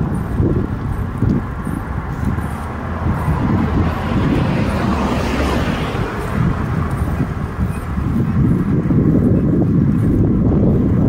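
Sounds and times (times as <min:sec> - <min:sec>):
car passing with tyre noise: 0:00.0 - 0:11.0
wind rumbling on microphone: 0:00.0 - 0:11.0.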